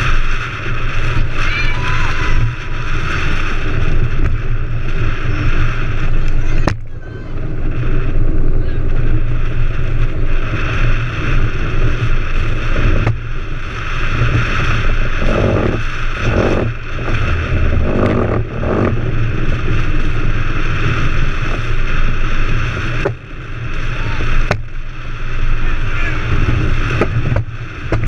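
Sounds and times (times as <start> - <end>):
hard wheels rumbling on asphalt: 0.0 - 28.0
wind on microphone: 0.0 - 28.0.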